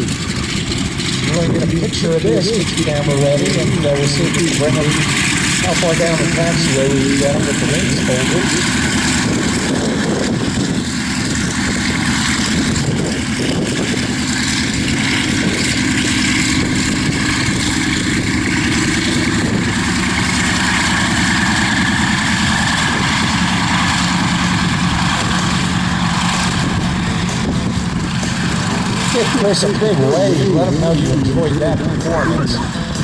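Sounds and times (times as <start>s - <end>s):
radial aircraft engine running: 0.0s - 33.0s.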